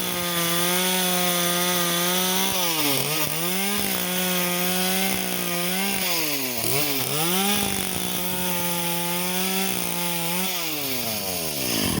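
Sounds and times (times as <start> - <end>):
chainsaw cutting at high revs: 0.0 - 12.0.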